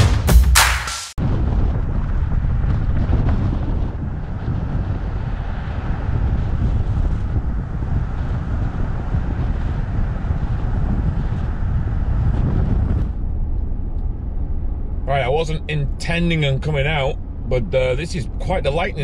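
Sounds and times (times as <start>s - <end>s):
car interior road rumble: 1.2s - 19.0s.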